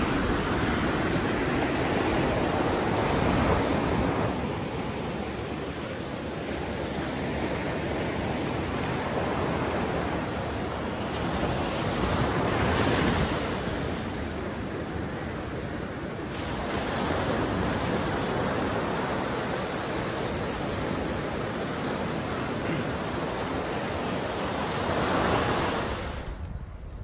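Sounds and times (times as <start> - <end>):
waves breaking on beach: 0.0 - 26.4.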